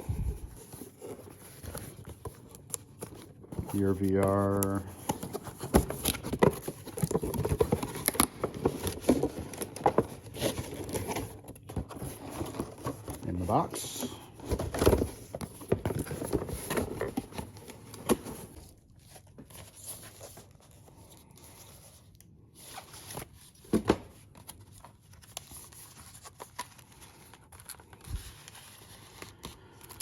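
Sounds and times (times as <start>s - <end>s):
cardboard boxes being opened: 0.0s - 30.0s.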